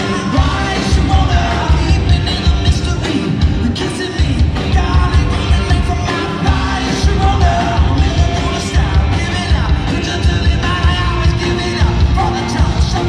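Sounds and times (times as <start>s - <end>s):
drum kit beat: 0.0s - 13.0s
electric guitars: 0.0s - 13.0s
person singing lead vocal: 0.0s - 13.0s.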